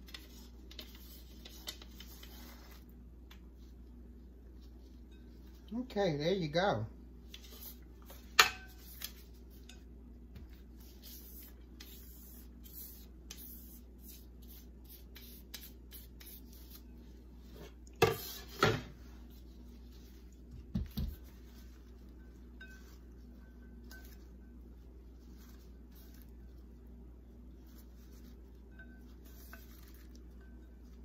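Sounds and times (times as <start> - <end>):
slaw rustling in a bowl: 0.0 - 5.9, 7.2 - 31.0.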